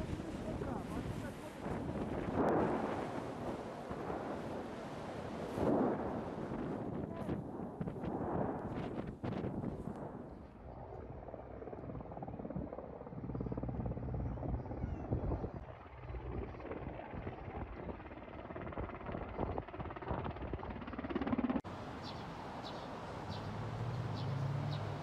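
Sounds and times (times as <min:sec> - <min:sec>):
helicopter rotor chopping: 0:00.0 - 0:25.0.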